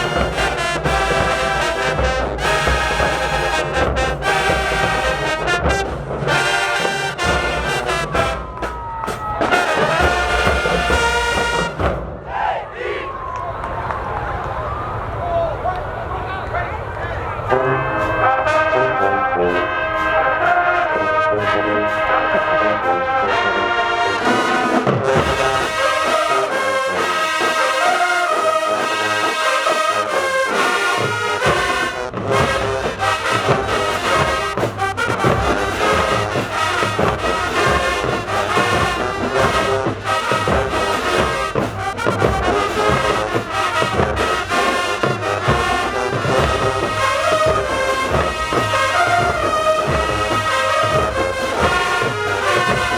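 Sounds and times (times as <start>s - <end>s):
drumline steady beat: 0.0s - 12.5s, 22.6s - 52.9s
marching band brass playing: 0.0s - 13.0s, 14.7s - 52.9s.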